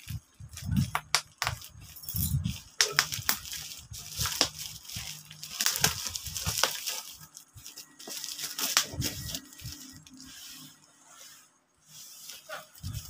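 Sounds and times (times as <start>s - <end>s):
bubble wrap crackling: 0.0s - 13.0s.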